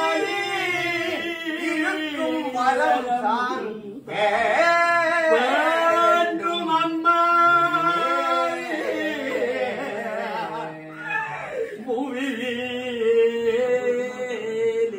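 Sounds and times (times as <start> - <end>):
person singing a lament: 0.0 - 14.9.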